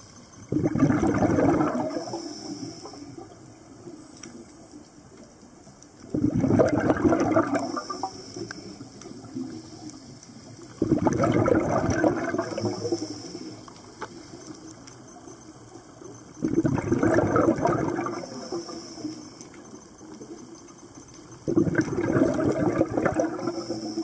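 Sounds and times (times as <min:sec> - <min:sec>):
breath bubbles gurgling underwater: 0:00.5 - 0:04.5, 0:06.0 - 0:14.8, 0:15.9 - 0:20.5, 0:21.2 - 0:24.0.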